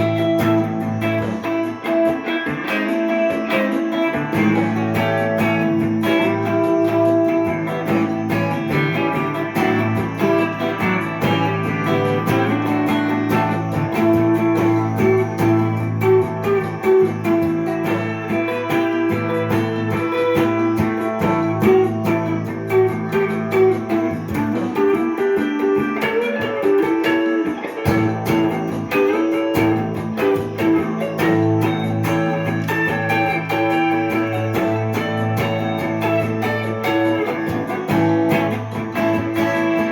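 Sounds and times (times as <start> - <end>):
electric guitar jazzy melody: 0.0 - 39.9.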